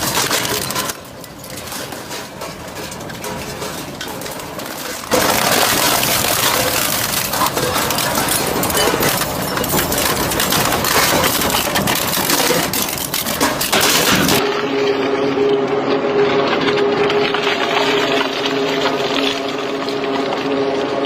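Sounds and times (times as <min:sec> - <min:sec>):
crushing machine grinding: 0:00.0 - 0:21.0.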